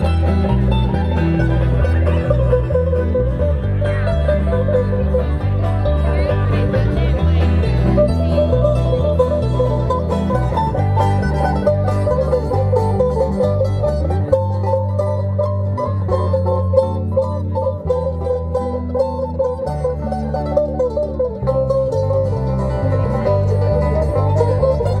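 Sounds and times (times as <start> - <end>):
banjo picking: 0.0 - 25.0
electric bass notes: 0.0 - 25.0
string band through speakers: 0.0 - 25.0.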